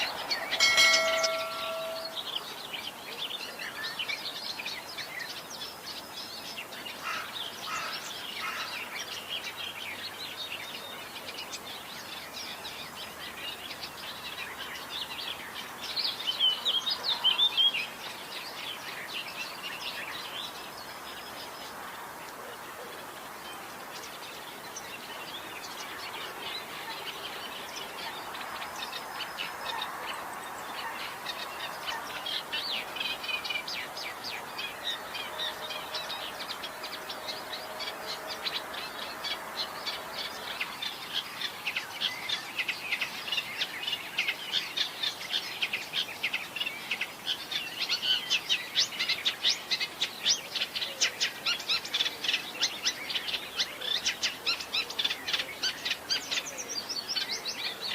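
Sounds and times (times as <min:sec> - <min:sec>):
reed warbler singing: 0:00.0 - 0:21.9, 0:22.6 - 0:57.9.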